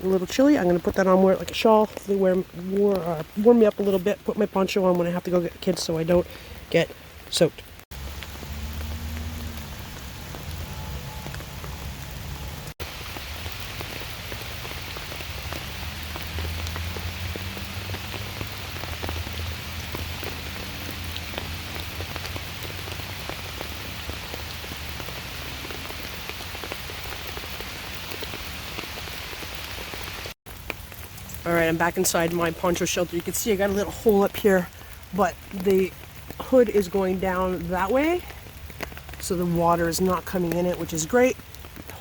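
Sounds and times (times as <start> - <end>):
low steady rain rumble: 0.0 - 42.0
raindrops tapping: 0.0 - 42.0.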